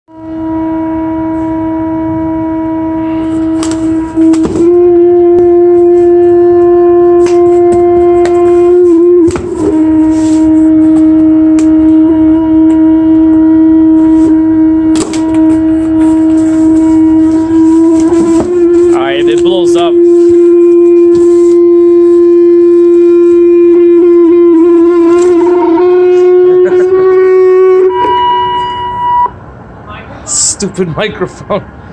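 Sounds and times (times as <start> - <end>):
loud steady tone: 0.1 - 31.9.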